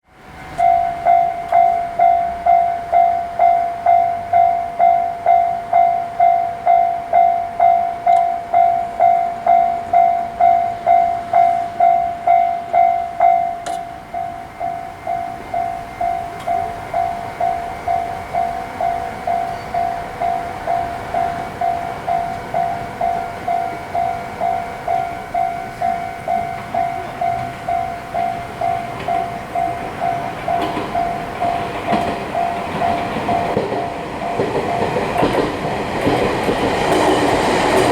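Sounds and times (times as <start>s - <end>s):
railroad crossing bell ringing: 0.1s - 37.9s.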